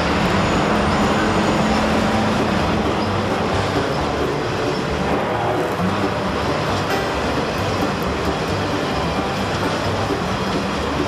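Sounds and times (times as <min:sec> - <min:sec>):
low engine hum: 0:00.0 - 0:11.0
train wheels rumbling on rails: 0:00.0 - 0:11.0.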